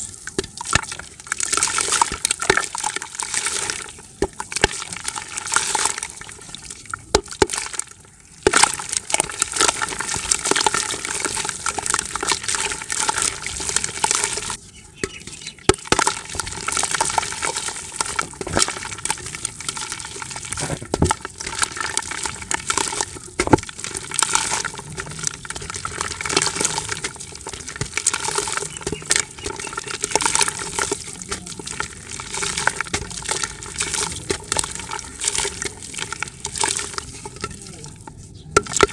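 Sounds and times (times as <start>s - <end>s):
dirt crumbling into water: 0.0s - 38.9s.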